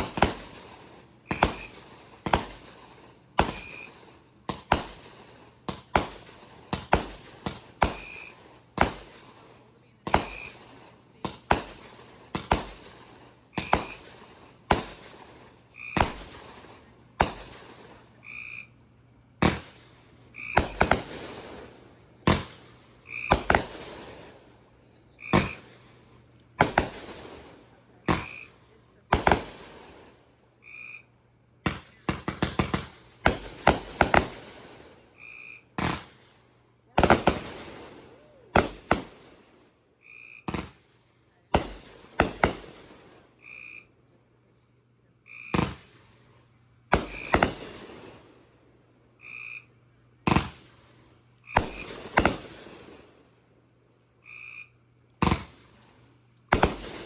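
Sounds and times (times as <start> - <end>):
fireworks banging: 0.0 - 30.6, 31.5 - 39.8, 40.4 - 43.4, 45.4 - 48.7, 50.1 - 53.4, 55.1 - 57.0.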